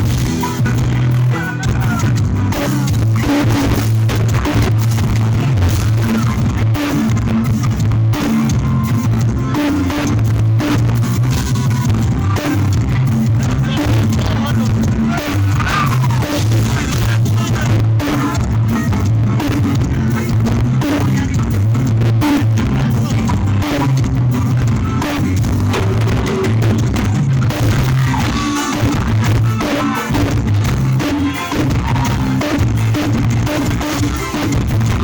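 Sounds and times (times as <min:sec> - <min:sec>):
bass line: 0:00.0 - 0:35.0
drum kit: 0:00.0 - 0:35.0
guitar: 0:00.0 - 0:35.0.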